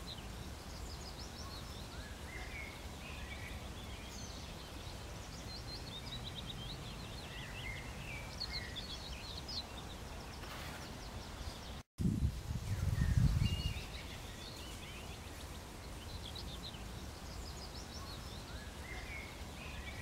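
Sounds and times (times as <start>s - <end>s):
small birds chirping and trilling: 0.0s - 11.9s, 12.6s - 20.0s.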